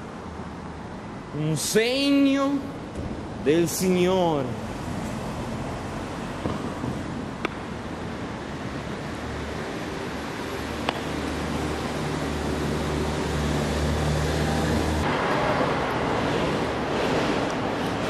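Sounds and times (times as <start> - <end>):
street background noise: 0.0 - 18.0.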